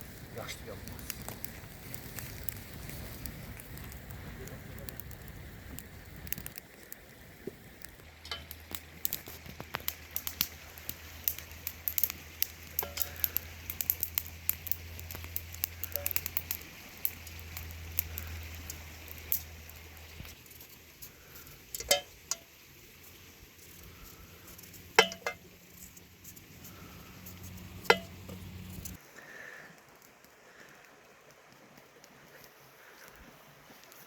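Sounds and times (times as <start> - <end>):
food sizzling and crackling: 0.0 - 29.0.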